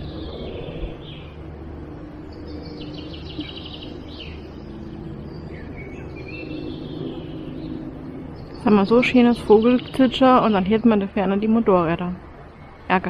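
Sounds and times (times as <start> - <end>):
birds chirping: 0.0 - 13.0
distant motorcycles droning: 0.0 - 13.0.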